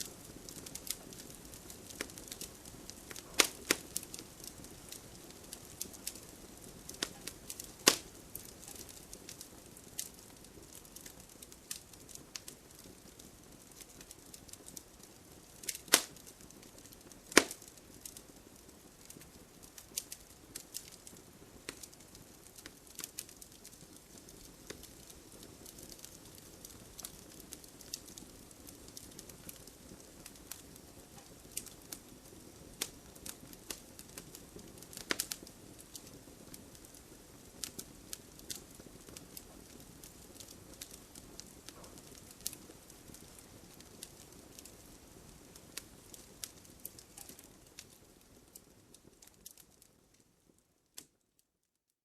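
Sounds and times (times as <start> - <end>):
hiss of flames: 0.0 - 49.6
wood fire crackling: 0.0 - 51.6.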